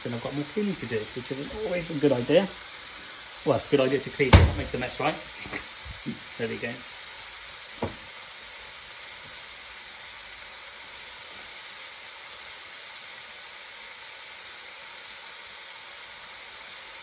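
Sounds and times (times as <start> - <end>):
onion sizzling in oil: 0.0 - 17.0.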